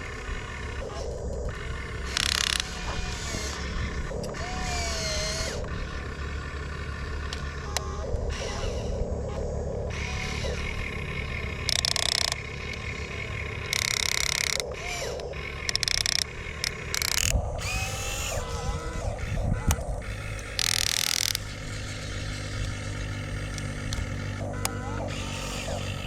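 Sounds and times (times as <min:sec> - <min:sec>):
loud hissing whirs: 0:00.0 - 0:26.0
small electric motors humming: 0:00.0 - 0:26.0.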